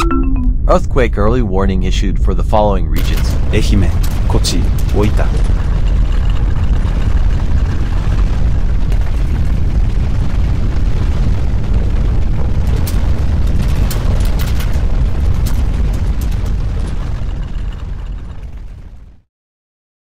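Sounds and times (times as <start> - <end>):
deep earthquake rumble: 0.5 - 19.3
rattling and clattering: 3.0 - 19.2.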